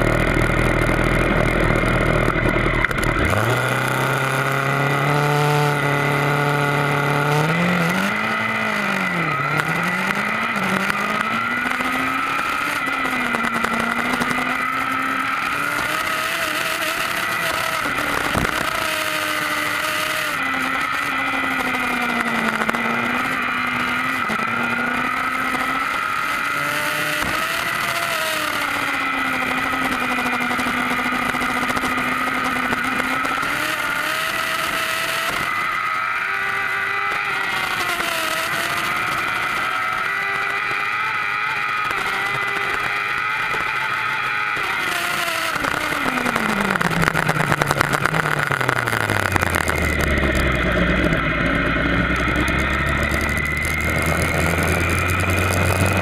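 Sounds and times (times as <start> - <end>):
sportbike engine revving: 0.0 - 56.0.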